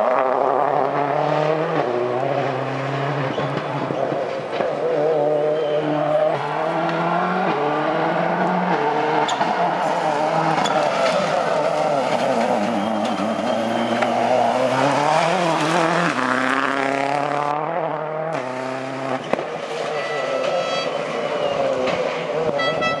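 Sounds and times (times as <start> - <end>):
rally car engine revving: 0.0 - 22.8.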